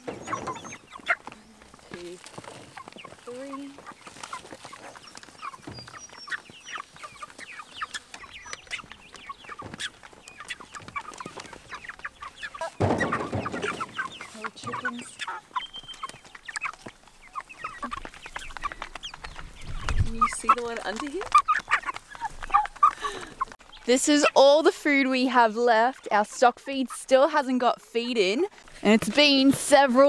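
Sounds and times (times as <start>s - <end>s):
chickens peeping and clucking: 0.0s - 30.0s.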